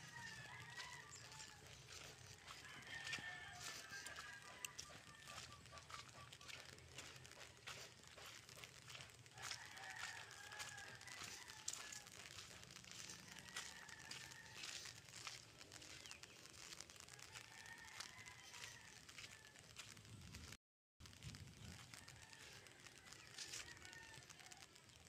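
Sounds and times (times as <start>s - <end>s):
light crackling and rustling: 0.0s - 25.0s.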